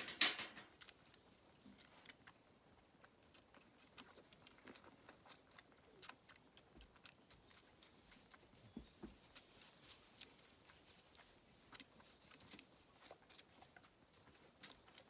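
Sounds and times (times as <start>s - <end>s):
lambs sucking milk bottles: 0.6s - 15.0s.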